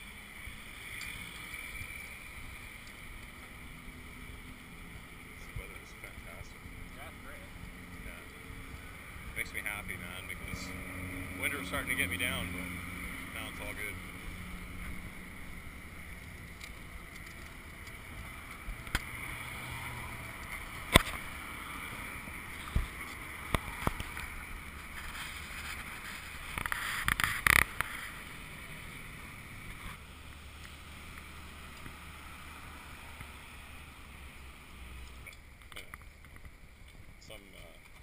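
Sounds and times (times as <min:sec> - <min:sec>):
stroller wheels rolling on concrete: 0:00.0 - 0:38.0.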